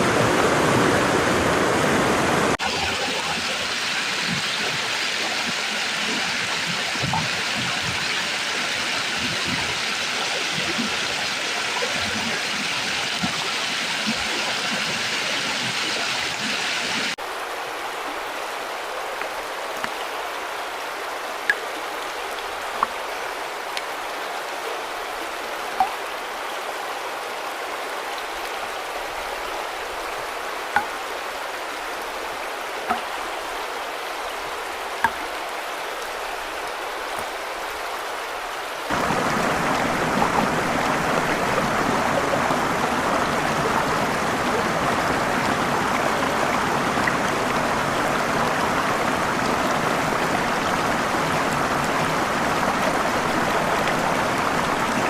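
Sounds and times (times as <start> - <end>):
rushing water: 0.0 - 55.0
water drips and splashes: 2.5 - 17.4, 18.0 - 26.7, 27.8 - 55.0.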